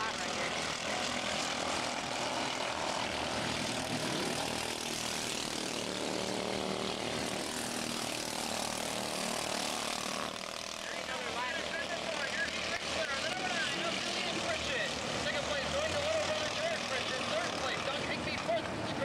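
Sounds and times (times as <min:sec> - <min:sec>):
small race car engines buzzing: 0:00.0 - 0:19.0.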